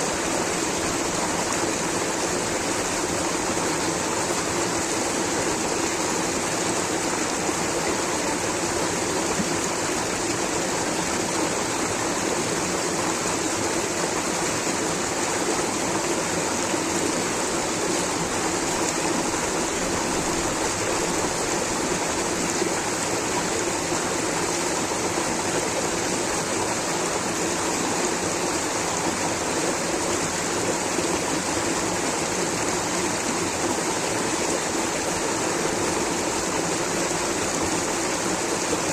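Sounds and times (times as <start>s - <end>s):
water rushing over waterfall: 0.0s - 38.9s.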